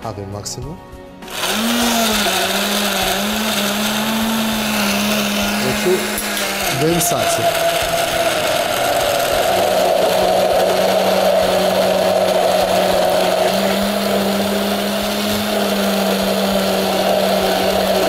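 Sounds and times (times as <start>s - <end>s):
immersion blender motor hum: 1.2s - 18.0s.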